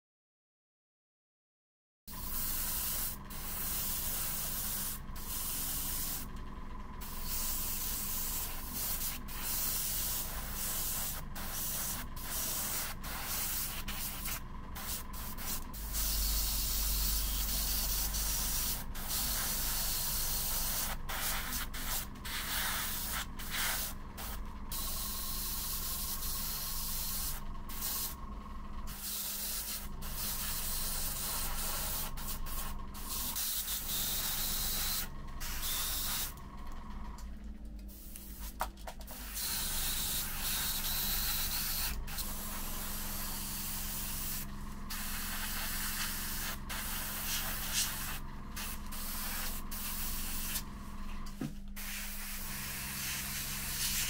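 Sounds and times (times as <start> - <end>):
steady low hum: 2.1 - 54.0
airbrush hissing: 2.2 - 6.3, 7.0 - 28.2, 28.9 - 36.3, 39.1 - 50.6, 51.8 - 54.0.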